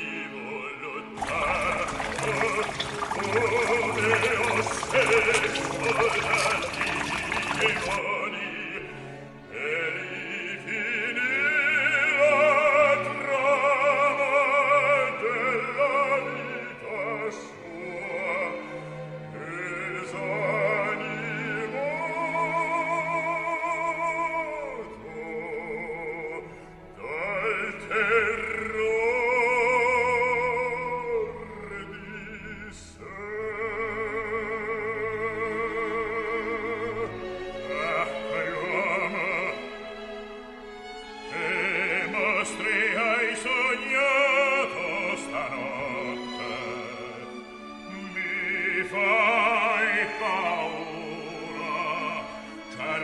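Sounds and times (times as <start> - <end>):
operatic singing with vibrato: 0.0 - 53.0
orchestral accompaniment: 0.1 - 53.0.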